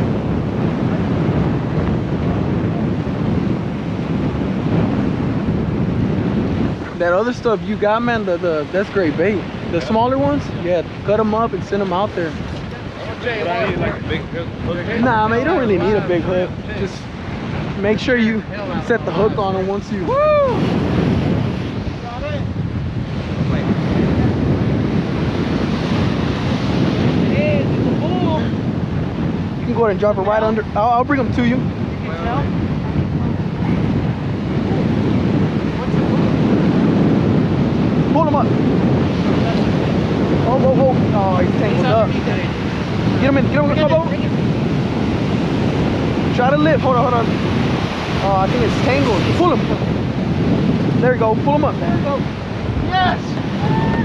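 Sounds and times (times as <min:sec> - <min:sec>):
surf washing: 0:00.0 - 0:54.0
wind buffeting microphone: 0:00.0 - 0:54.0.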